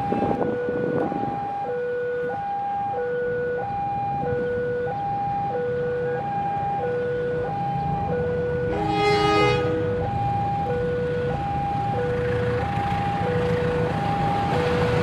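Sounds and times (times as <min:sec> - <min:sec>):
electronic two-tone warning alarm: 0:00.0 - 0:15.0.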